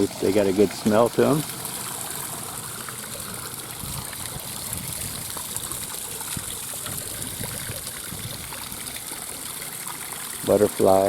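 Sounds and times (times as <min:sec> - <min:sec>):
waterfall splashing and trickling: 0:00.0 - 0:11.0.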